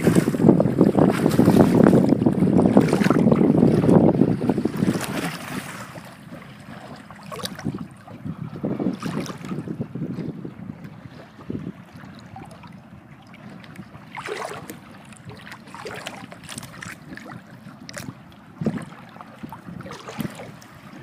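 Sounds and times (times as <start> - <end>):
water splashing against boat: 0.0 - 21.0.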